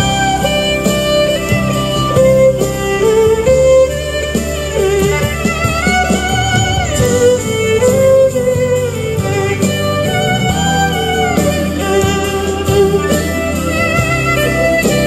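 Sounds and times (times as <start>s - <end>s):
guitar and bass backing: 0.0s - 15.0s
solo violin melody: 0.0s - 15.0s.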